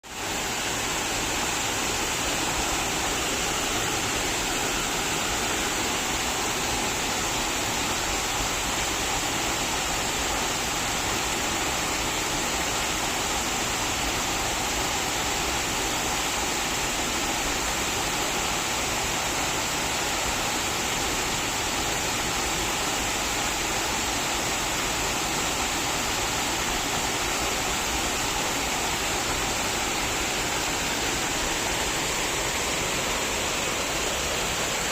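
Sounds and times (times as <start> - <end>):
waterfall splashing into pool: 0.0 - 34.9.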